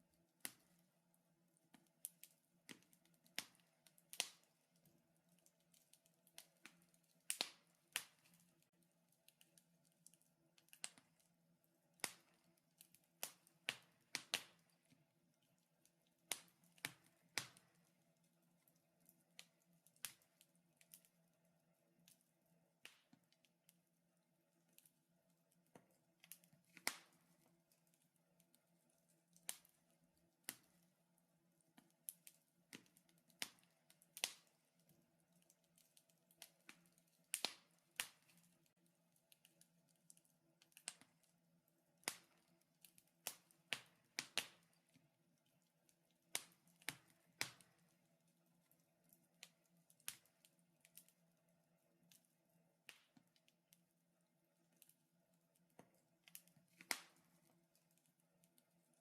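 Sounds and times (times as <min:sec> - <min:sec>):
wood fire crackling: 0:00.1 - 0:53.8, 0:54.6 - 0:59.0.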